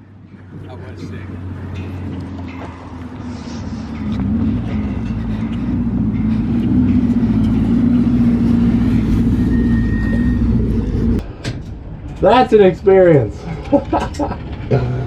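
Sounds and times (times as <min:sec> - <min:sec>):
vehicle engine droning: 0:00.0 - 0:12.1.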